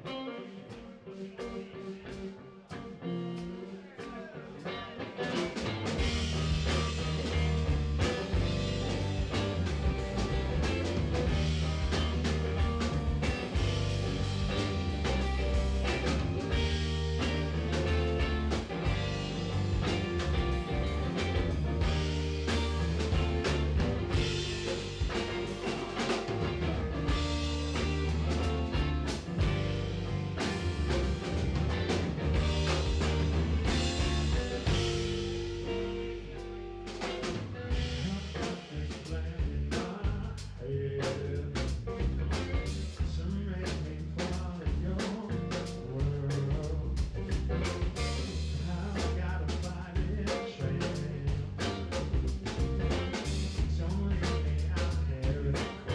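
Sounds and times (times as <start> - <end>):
guitar: 0.0 - 55.9
electric bass: 4.8 - 55.9
drum kit: 5.2 - 55.9.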